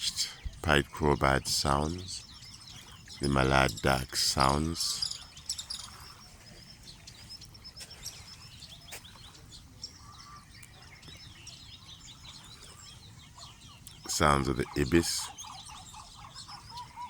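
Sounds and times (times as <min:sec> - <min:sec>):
wild birds chirping: 0:00.0 - 0:17.0.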